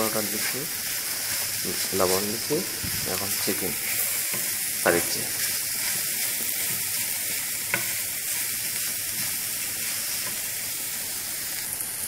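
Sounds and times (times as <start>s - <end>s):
wooden spatula stirring: 0.0s - 10.6s
food sizzling in hot oil: 0.0s - 12.0s.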